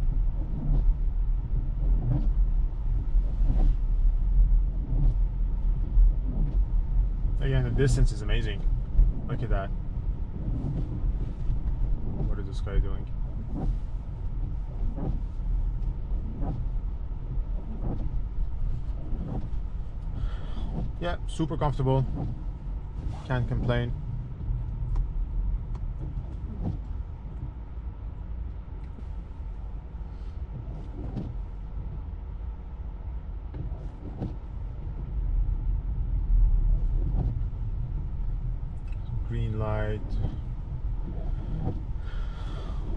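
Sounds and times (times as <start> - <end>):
low road and tyre rumble: 0.0 - 42.9.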